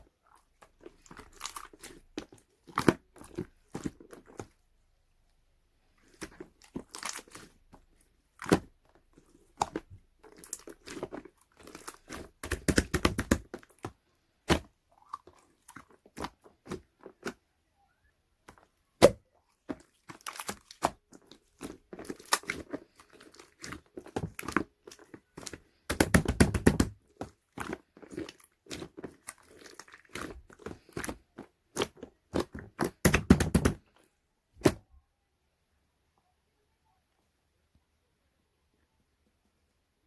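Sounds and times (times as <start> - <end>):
crunching sounds: 0.0 - 4.7, 5.9 - 17.5, 18.4 - 34.8.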